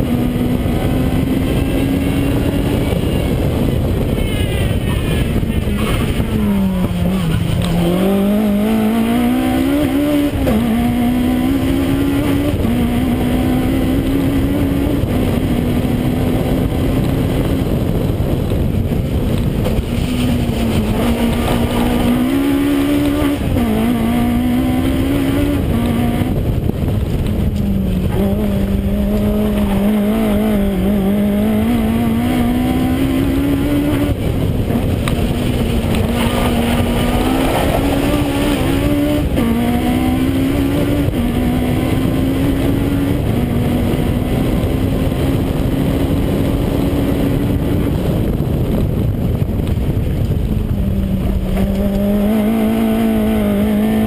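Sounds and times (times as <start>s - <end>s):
rally car engine revving: 0.0s - 54.0s
wind and road noise: 0.0s - 54.0s.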